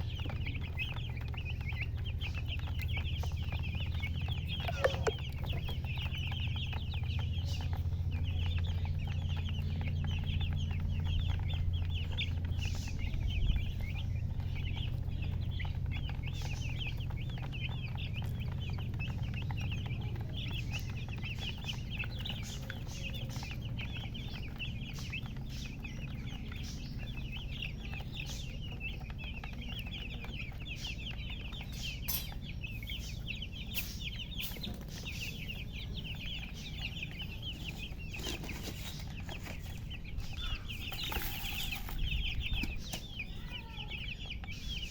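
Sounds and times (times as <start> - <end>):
baby chicks peeping: 0.0 - 44.9
steady low hum: 0.0 - 44.9.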